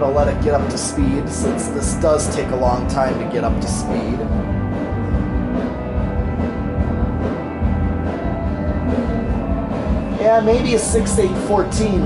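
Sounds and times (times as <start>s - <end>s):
background music with low drums: 0.0s - 12.0s.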